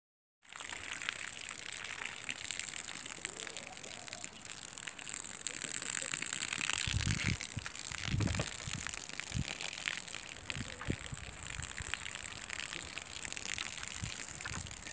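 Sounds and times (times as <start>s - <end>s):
garden hose spraying water: 0.4s - 14.9s
spray crackling on leaves: 0.5s - 14.9s.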